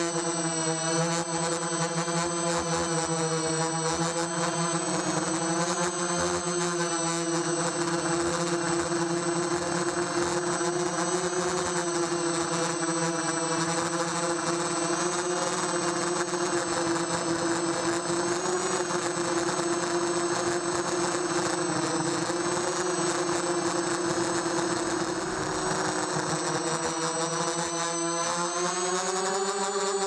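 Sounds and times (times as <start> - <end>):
quadcopter motors whining: 0.0 - 30.0.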